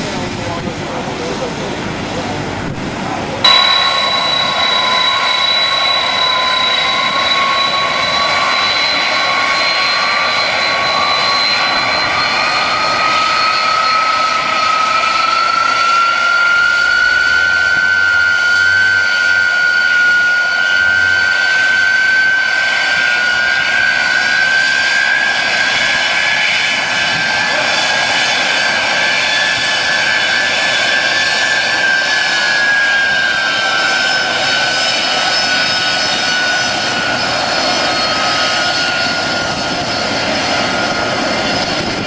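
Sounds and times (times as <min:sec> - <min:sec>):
jet turbine engines whining: 0:00.0 - 0:42.0.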